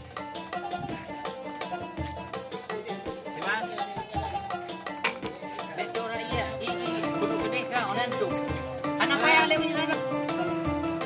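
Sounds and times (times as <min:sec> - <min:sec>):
plucked string instrument music: 0:00.0 - 0:11.0.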